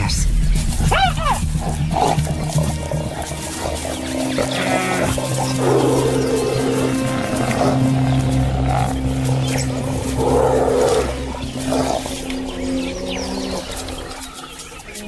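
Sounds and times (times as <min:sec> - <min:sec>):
animals snarling and growling: 0:00.0 - 0:15.0
low drone of held tones: 0:00.0 - 0:15.0.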